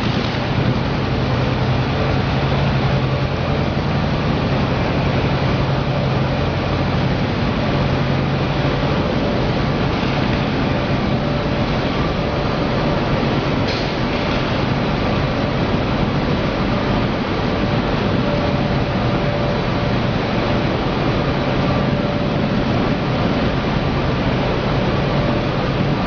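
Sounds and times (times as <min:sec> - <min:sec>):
loud machinery noise: 0:00.0 - 0:26.0.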